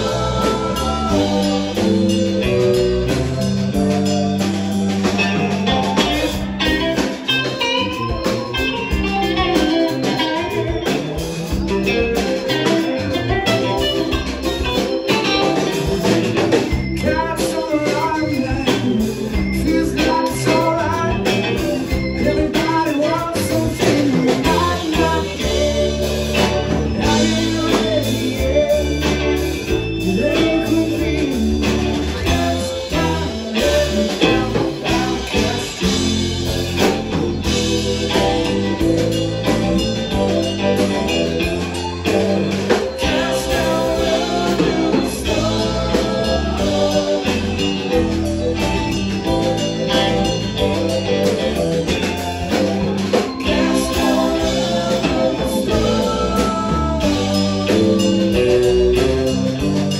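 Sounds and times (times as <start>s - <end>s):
electric guitar: 0.0s - 59.9s
rock band playing: 0.0s - 59.9s.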